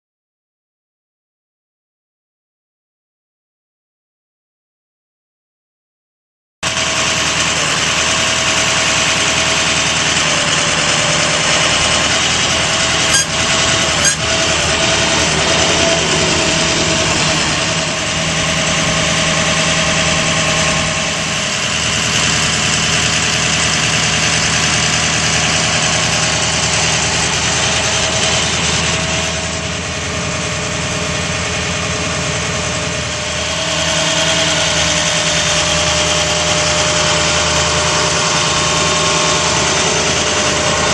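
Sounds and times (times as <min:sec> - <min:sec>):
diesel engine idling: 0:06.6 - 0:40.9.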